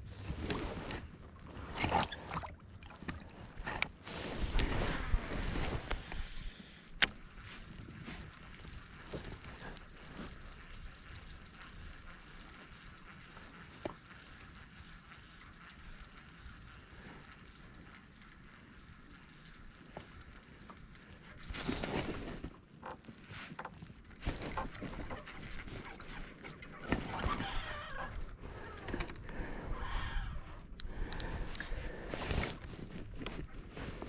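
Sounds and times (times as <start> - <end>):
water: 0.0 - 34.0
wind: 0.0 - 34.0
fishing reel ticking whir: 0.4 - 34.0.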